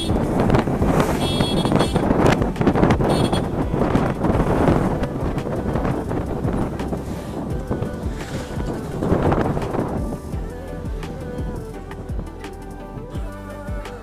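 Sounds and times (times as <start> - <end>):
wind buffeting microphone: 0.0 - 13.3
road and engine rumble: 0.0 - 14.0.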